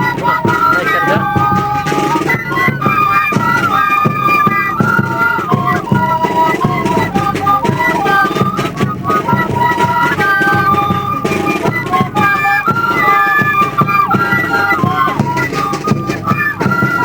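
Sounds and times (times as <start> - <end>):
flute-like wind melody: 0.0 - 17.0
rhythmic accompaniment: 0.0 - 17.0.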